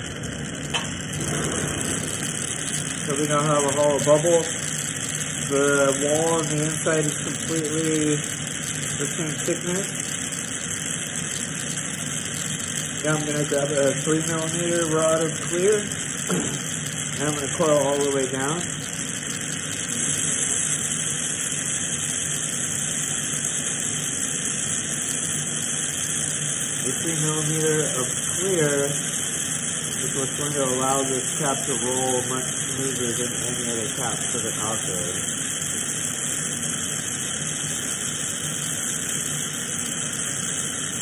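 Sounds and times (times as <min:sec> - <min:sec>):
torch flame hissing: 0:00.0 - 0:41.0.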